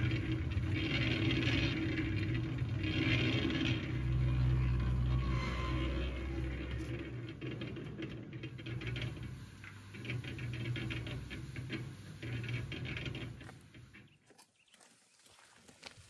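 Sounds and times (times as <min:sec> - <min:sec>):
mortar rattling in turning drum: 0:00.0 - 0:14.0
cement mixer motor hum: 0:00.0 - 0:14.1.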